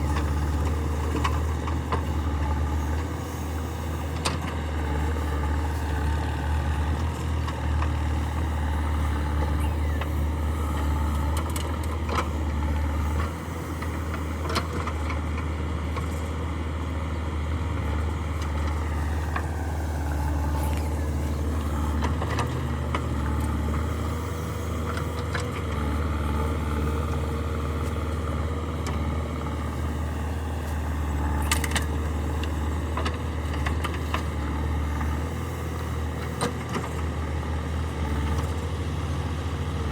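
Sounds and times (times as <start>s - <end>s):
heavy diesel engines humming: 0.0s - 39.9s.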